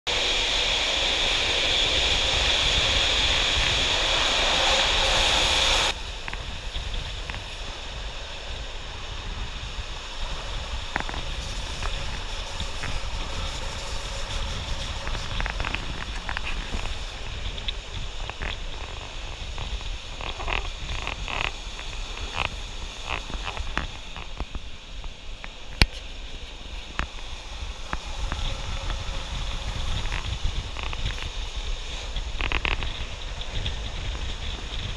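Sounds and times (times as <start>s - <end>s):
loud hissing noise: 0.1s - 34.9s
train rumbling along track: 0.1s - 34.9s
wind on microphone: 0.1s - 34.9s.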